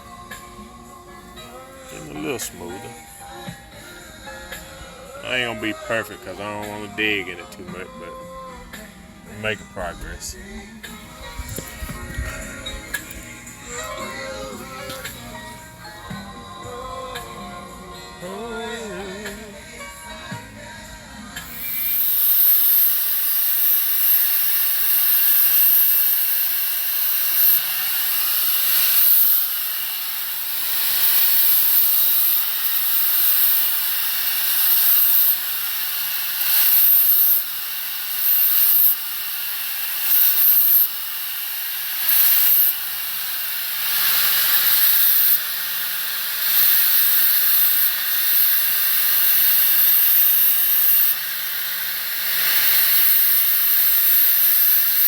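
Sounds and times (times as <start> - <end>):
angle grinder grinding metal: 0.0 - 55.0.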